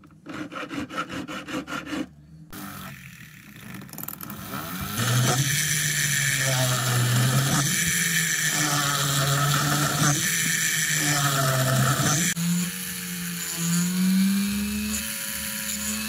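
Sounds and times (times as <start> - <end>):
rotary tool motor whine: 2.5 - 16.0.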